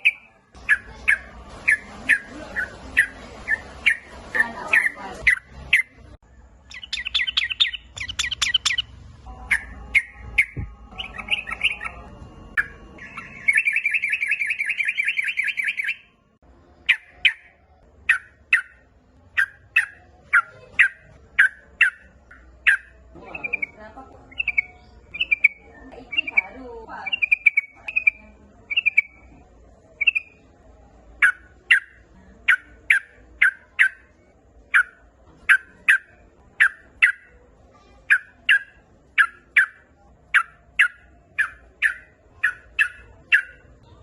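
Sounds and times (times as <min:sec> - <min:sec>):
bird chirping and trilling: 0:00.0 - 0:29.4, 0:30.0 - 0:30.5, 0:31.1 - 0:44.0.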